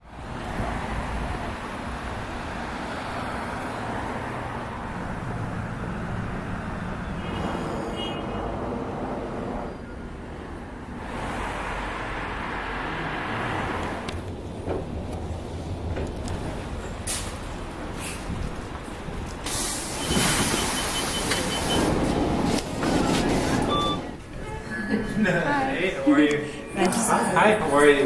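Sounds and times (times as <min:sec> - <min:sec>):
passing cars: 0:00.0 - 0:28.0.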